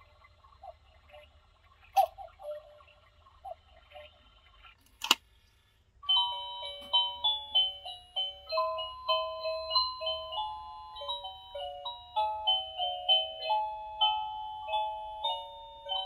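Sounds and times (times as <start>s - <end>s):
cuckoo clock melody: 0.0s - 4.6s, 5.9s - 16.0s.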